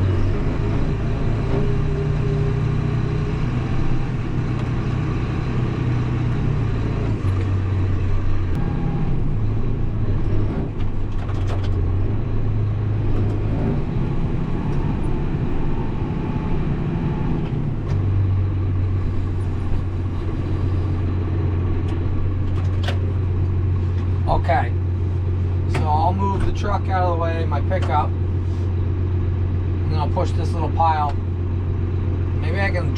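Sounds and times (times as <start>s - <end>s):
snow plow engine droning: 0.0s - 32.9s.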